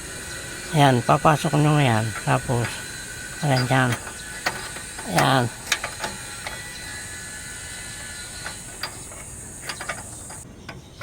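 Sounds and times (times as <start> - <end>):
ratchet metallic clicks: 2.0 - 11.0.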